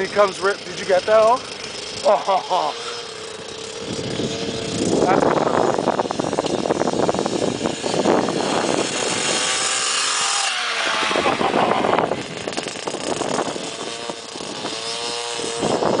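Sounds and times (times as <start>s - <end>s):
two-stroke dirt bike engine revving: 0.0s - 16.0s.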